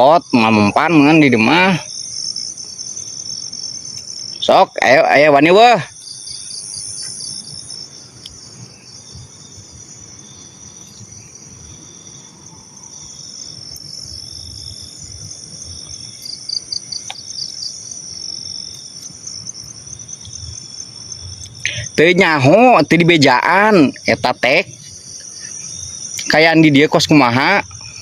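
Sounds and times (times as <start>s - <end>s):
night insects trilling: 0.0s - 28.0s.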